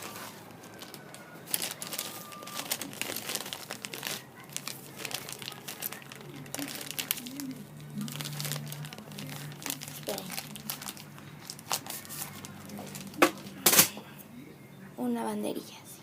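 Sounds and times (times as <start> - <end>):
plastic packaging crinkling: 0.0 - 13.8
faint low hum: 0.0 - 16.0.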